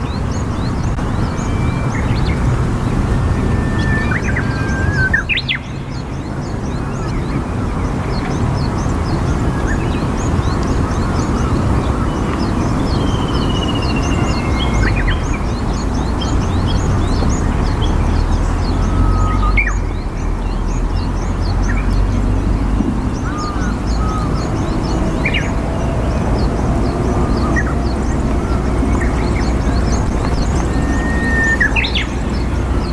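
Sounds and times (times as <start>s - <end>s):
small birds chirping: 0.0s - 32.9s
steady river rumble: 0.0s - 32.9s.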